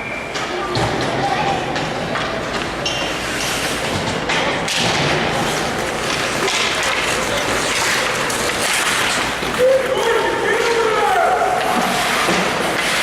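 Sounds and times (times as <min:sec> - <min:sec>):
arena noise: 0:00.0 - 0:13.0.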